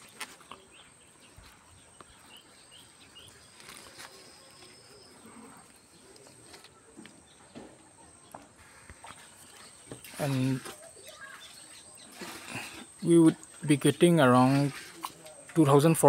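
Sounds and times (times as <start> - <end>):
leaves and branches rustling: 0.0 - 7.6, 8.5 - 16.0.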